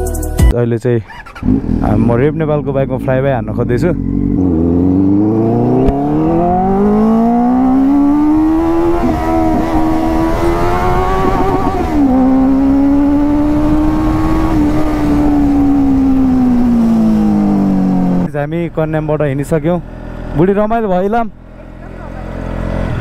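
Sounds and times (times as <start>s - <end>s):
motorcycle engine accelerating: 1.1s - 23.0s.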